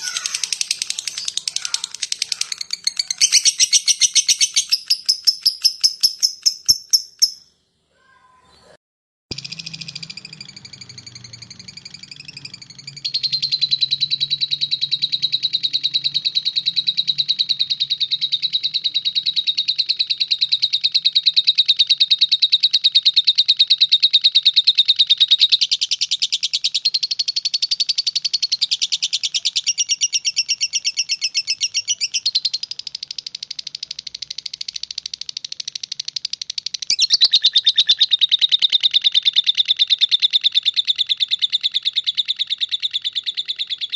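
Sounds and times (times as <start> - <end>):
lovebird chattering trill: 0.0 - 7.5, 9.3 - 43.9.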